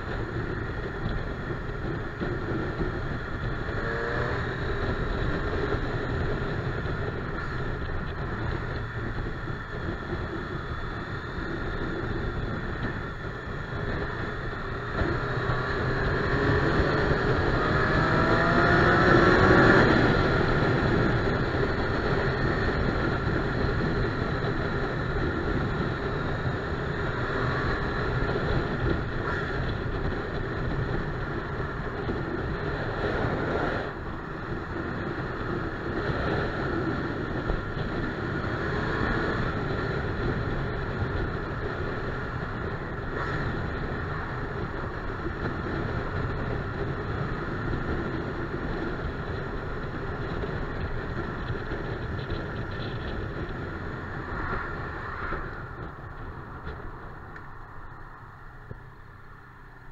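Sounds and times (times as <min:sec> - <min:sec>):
motorcycle engine cruising: 0:00.0 - 0:59.9
wind rush over camera: 0:00.0 - 0:59.9.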